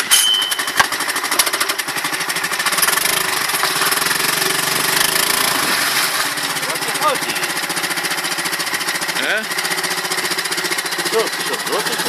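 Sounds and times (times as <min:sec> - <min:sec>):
outboard motor running: 0:00.0 - 0:12.0
propeller churning water: 0:00.9 - 0:12.0.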